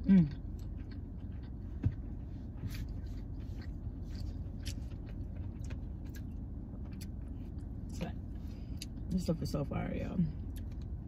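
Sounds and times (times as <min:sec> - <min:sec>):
person chewing: 0:00.0 - 0:09.1, 0:10.4 - 0:11.0
low hum inside a car: 0:00.0 - 0:11.0.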